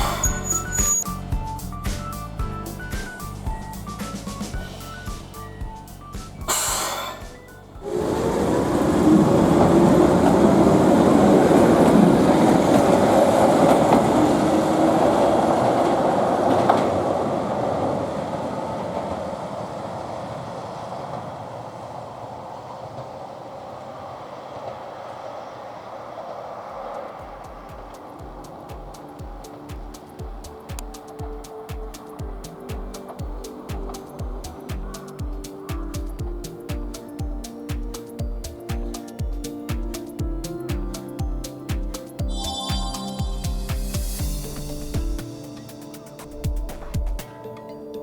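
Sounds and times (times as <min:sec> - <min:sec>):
train passing with whine: 0:00.0 - 0:48.0.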